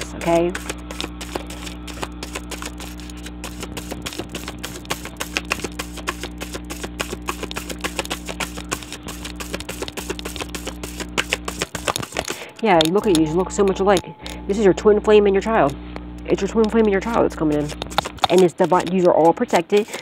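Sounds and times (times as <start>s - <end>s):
cards being shuffled: 0.0s - 13.4s, 15.5s - 20.0s.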